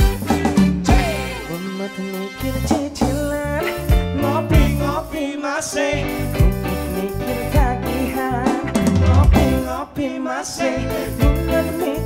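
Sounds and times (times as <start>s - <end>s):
live band with bass guitar: 0.0s - 10.0s, 10.6s - 12.0s
man singing pop song: 0.0s - 12.0s.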